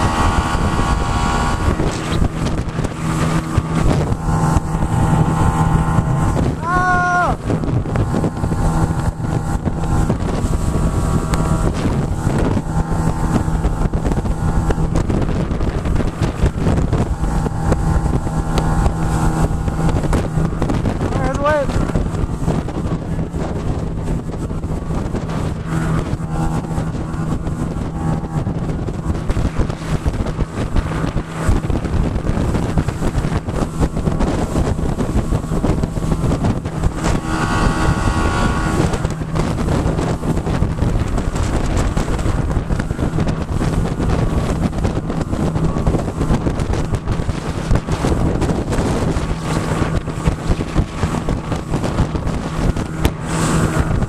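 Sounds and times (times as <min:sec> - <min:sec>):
outboard motor drone: 0:00.0 - 0:54.0
wind buffeting microphone: 0:00.0 - 0:54.0.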